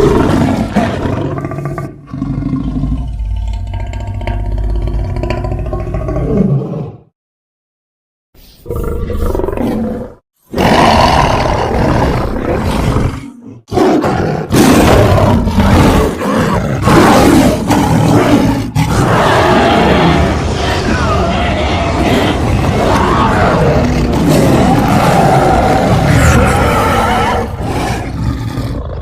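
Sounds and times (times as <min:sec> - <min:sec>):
creature roaring: 0:00.0 - 0:07.1, 0:08.7 - 0:29.0.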